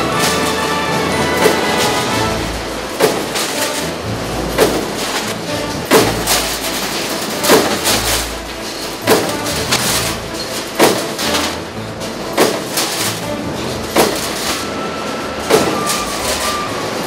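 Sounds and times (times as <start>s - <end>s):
low machine hum: 0.0s - 17.0s
stamping press hitting sheet steel: 0.0s - 17.0s.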